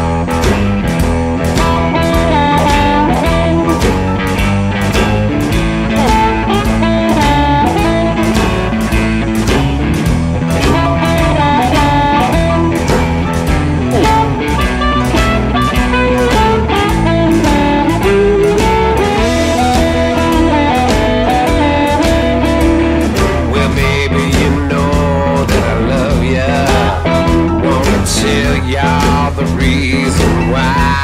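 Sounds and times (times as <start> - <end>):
electric blues band playing: 0.0 - 31.0
electric guitar: 0.0 - 31.0.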